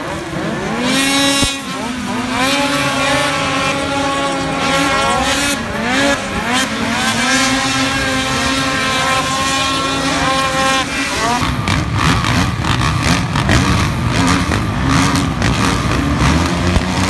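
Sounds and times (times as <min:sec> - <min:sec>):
snowmobile engines revving: 0:00.0 - 0:17.0.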